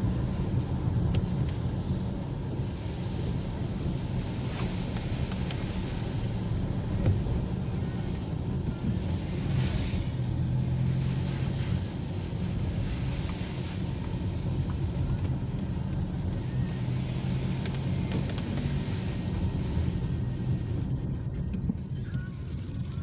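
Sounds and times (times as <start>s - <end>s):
car engine hum: 0.0s - 23.0s
road and tyre noise: 0.0s - 23.0s.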